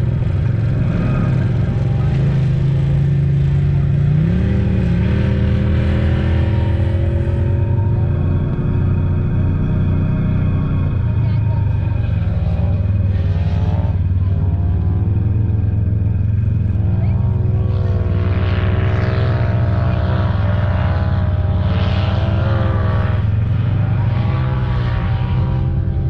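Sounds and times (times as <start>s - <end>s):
utility vehicle engine running: 0.0s - 26.0s.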